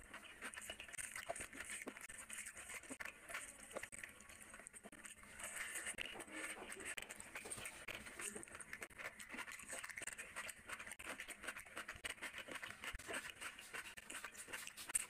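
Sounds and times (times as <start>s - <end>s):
close chewing: 0.0s - 15.0s.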